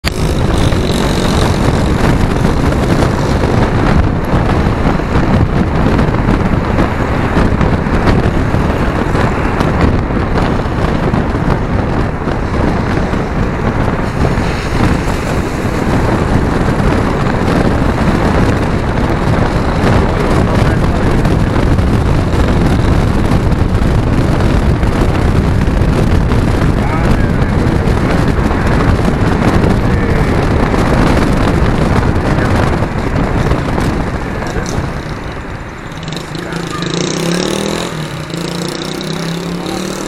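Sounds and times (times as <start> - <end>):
moving vehicle noise: 0.0 - 40.0
wind buffeting microphone: 0.0 - 40.0.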